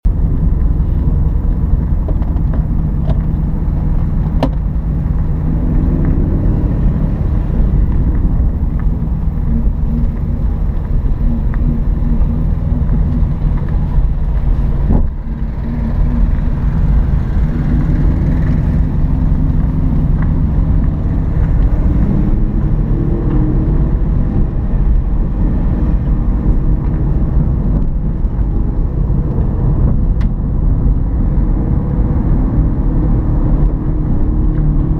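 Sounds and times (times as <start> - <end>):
car engine revving on a race track: 0.1 - 34.9.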